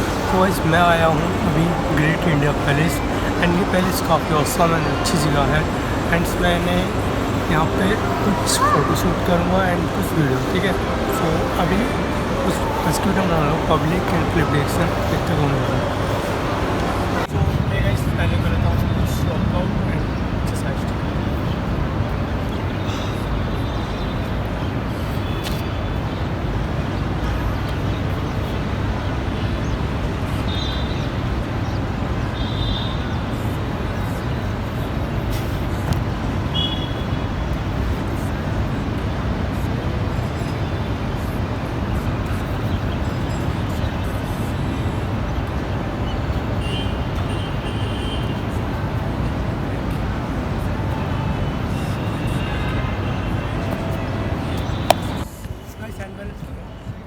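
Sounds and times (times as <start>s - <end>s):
road traffic roar: 0.0s - 57.0s.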